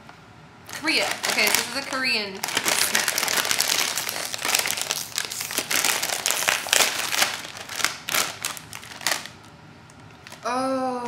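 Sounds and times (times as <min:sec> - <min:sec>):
plastic snack bag crinkling: 0:00.7 - 0:10.5.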